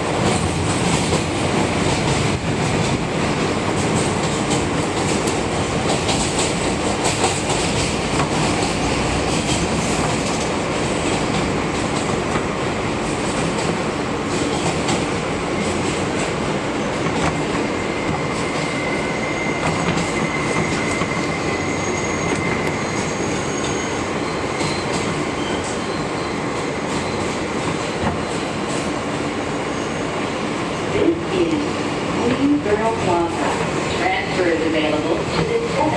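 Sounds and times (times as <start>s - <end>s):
clickety-clack of rail joints: 0.0s - 18.8s, 19.5s - 21.4s, 24.5s - 29.2s, 32.2s - 35.9s
subway train wheels rumbling: 0.0s - 35.9s.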